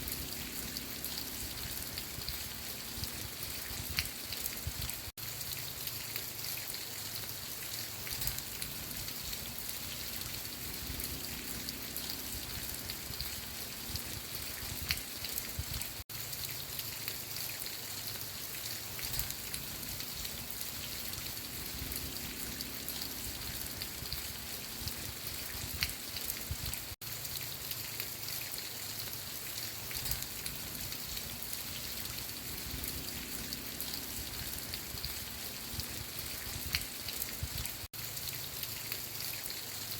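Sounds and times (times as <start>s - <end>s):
raindrops ticking: 0.0s - 39.9s
steady rain falling: 0.0s - 39.9s.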